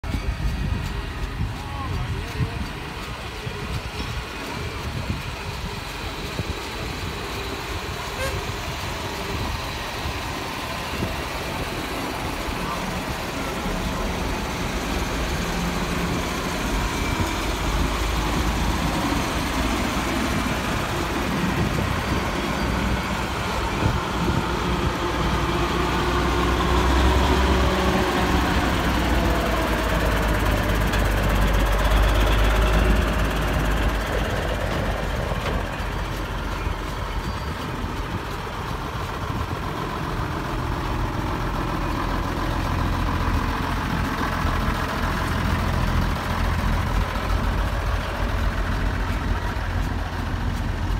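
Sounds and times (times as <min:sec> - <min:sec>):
heavy lorry engines passing slowly: 0:00.0 - 0:50.9.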